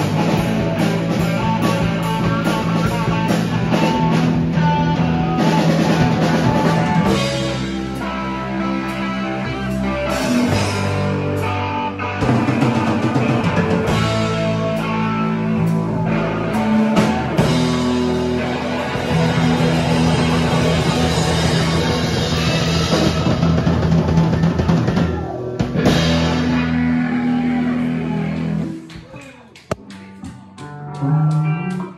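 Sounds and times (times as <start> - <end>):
bass guitar: 0.0 - 31.9
distorted electric guitars: 0.0 - 31.9
drum kit: 0.0 - 31.9.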